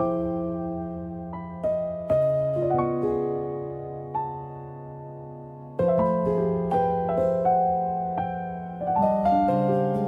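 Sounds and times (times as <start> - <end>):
slow keyboard music: 0.0 - 10.0.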